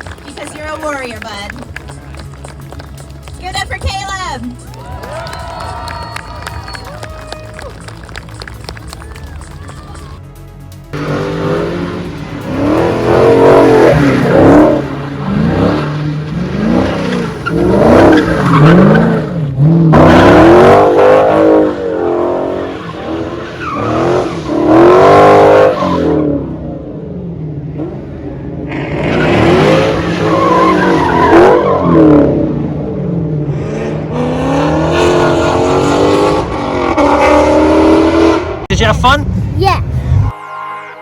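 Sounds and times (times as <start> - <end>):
tires squealing: 0.0 - 10.2, 11.0 - 26.7, 27.9 - 32.7, 33.5 - 38.9
car engine revving: 0.0 - 40.9.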